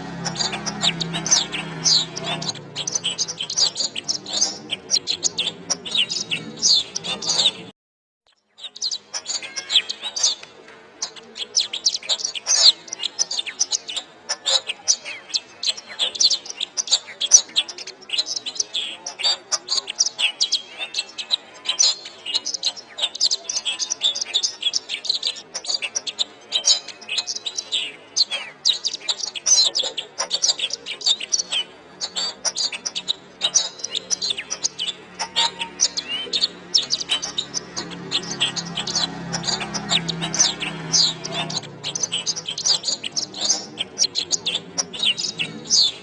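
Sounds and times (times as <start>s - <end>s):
canary singing: 0.0s - 7.7s, 8.3s - 46.0s.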